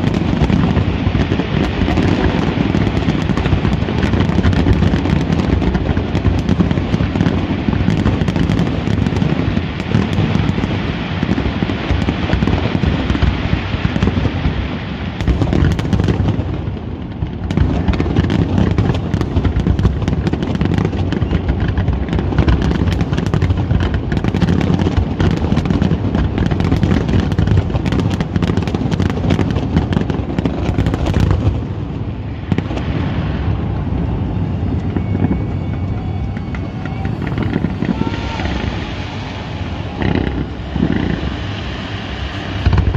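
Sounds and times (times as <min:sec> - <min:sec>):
fireworks bangs: 0:00.0 - 0:42.9
fireworks crackling: 0:00.0 - 0:42.9.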